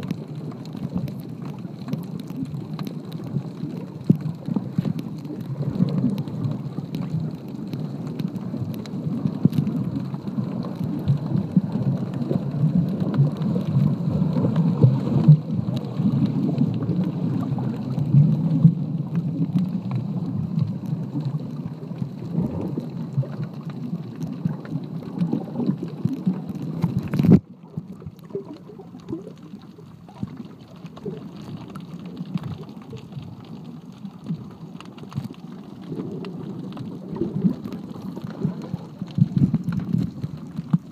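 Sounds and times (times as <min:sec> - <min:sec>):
underwater rumble of moving water: 0:00.0 - 0:40.9.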